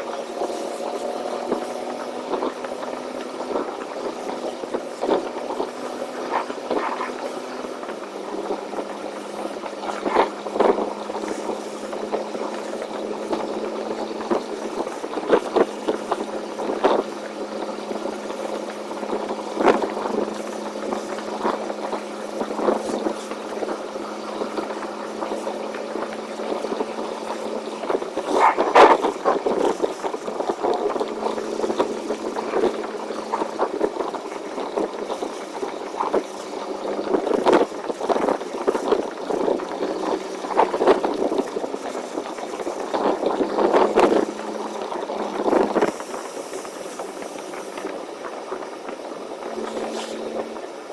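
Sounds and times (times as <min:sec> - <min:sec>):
truck engine droning: 0:00.0 - 0:37.2, 0:39.6 - 0:46.1, 0:49.2 - 0:50.9.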